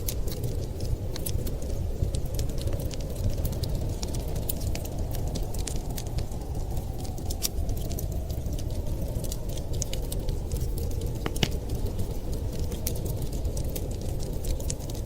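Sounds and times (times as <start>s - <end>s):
storm wind rumbling: 0.0s - 15.0s
wood fire crackling and popping: 0.0s - 15.0s.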